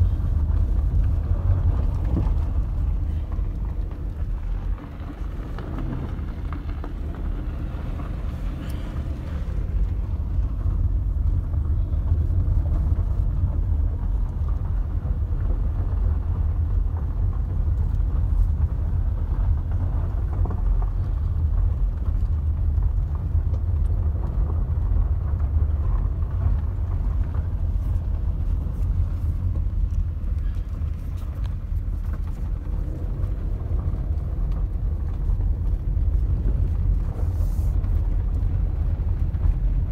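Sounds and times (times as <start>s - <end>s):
car driving on dirt road: 0.0s - 39.9s.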